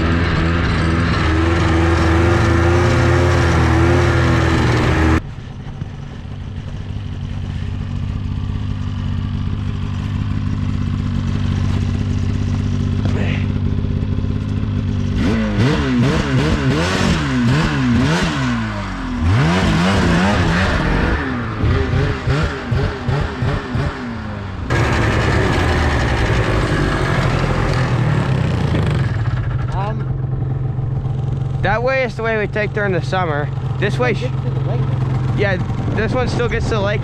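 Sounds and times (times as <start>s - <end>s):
snowmobile engine revving: 0.0s - 5.2s, 7.4s - 37.0s.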